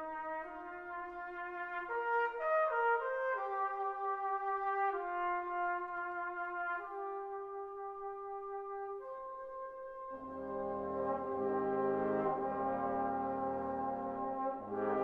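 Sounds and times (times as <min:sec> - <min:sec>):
brass band playing slow melody: 0:00.0 - 0:15.0.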